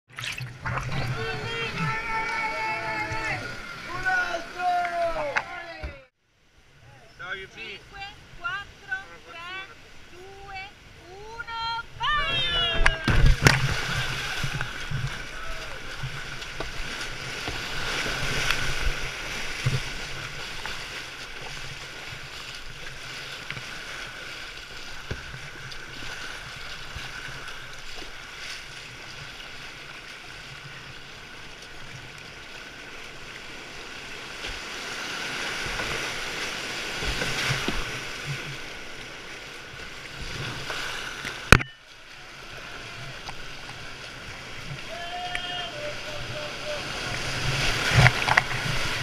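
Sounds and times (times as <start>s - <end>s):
kayak paddle strokes splashing: 0.1s - 6.1s, 7.9s - 49.0s
rushing river water: 0.1s - 49.0s.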